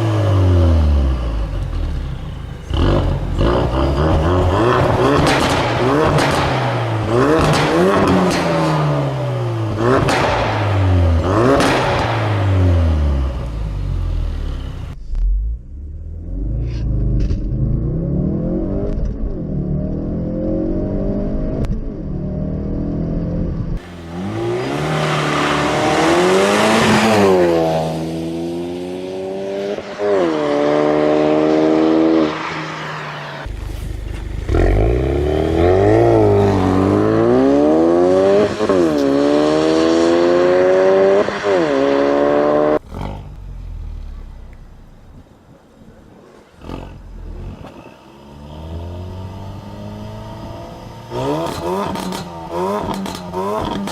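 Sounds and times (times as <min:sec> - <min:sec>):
car engine revving and accelerating: 0:00.0 - 0:15.0, 0:15.7 - 0:44.2, 0:46.6 - 0:53.9.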